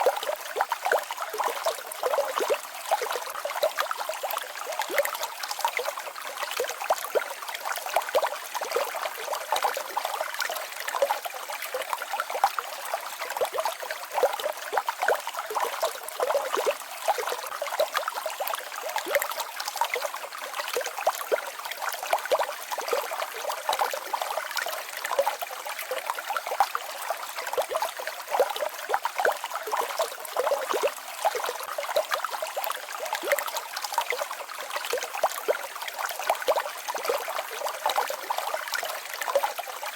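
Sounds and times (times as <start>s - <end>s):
waterfall and stream babbling: 0.0s - 39.9s.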